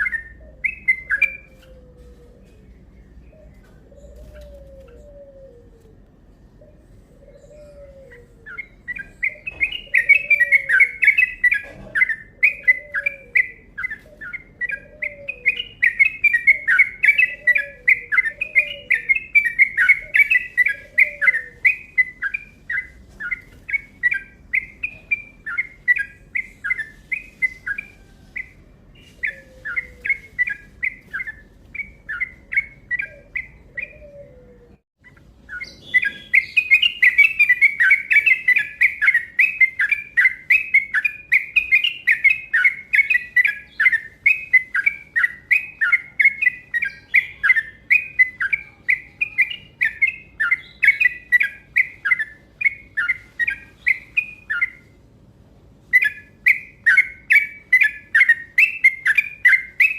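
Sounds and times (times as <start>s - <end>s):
bird singing rapid chattering song: 0.0s - 5.1s, 6.7s - 34.1s, 35.0s - 55.1s, 55.8s - 59.9s
faint low bird call: 0.0s - 55.0s.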